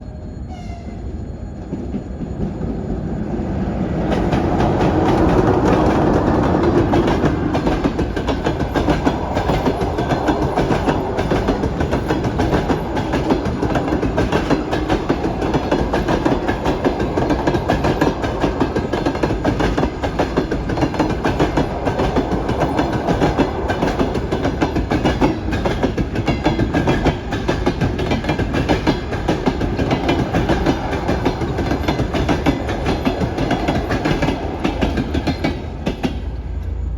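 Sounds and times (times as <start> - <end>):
train wheels clattering over rail joints: 4.1 - 36.4.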